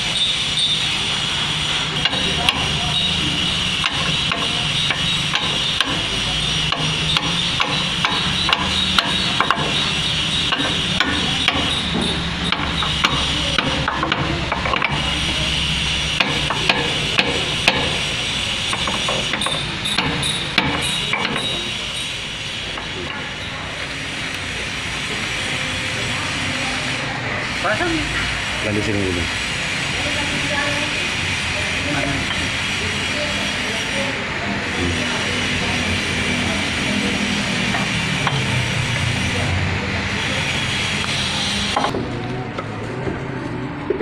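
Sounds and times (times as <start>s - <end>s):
mechanical hum and hiss: 0.0s - 44.0s.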